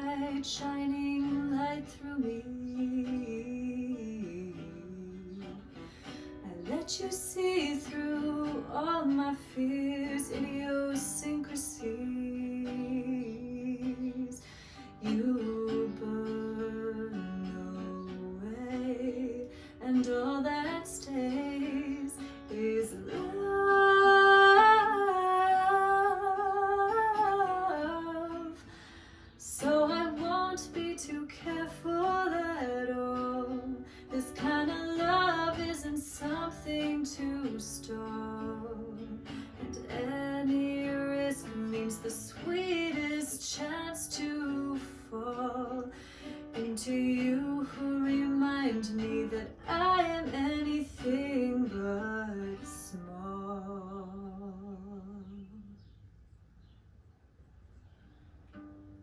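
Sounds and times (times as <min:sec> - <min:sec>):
woman singing: 0:00.0 - 0:55.9
acoustic guitar: 0:00.0 - 0:56.0, 0:57.5 - 0:59.0.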